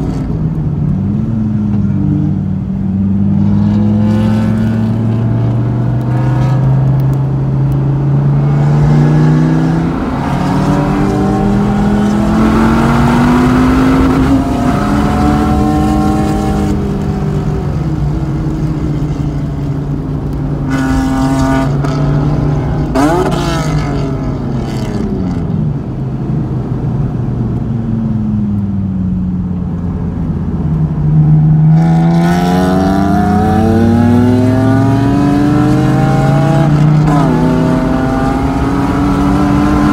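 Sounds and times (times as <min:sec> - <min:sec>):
car engine revving: 0:00.0 - 0:27.8, 0:30.2 - 0:39.9.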